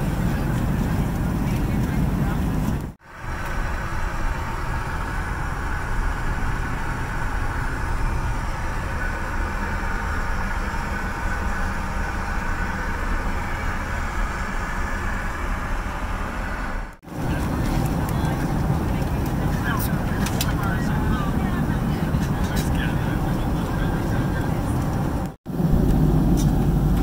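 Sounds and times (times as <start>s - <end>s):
aircraft engine drone: 0.0s - 27.0s
rushing airflow: 0.0s - 27.0s.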